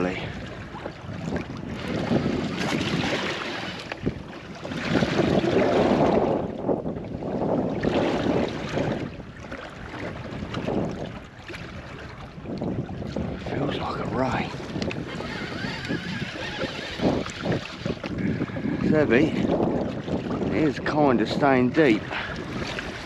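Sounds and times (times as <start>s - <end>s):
water sloshing against hull: 0.0s - 23.0s
wind gusting over microphone: 0.0s - 23.0s.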